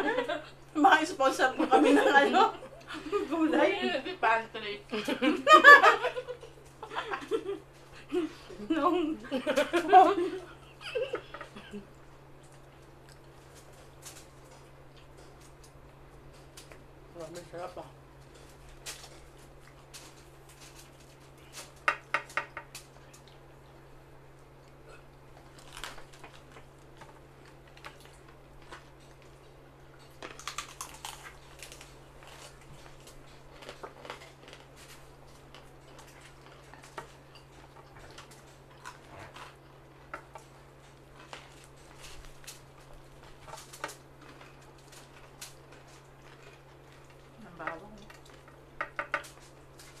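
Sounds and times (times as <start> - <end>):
steady low hum: 0.0 - 50.0
clicks and light clatter of eating: 9.4 - 50.0.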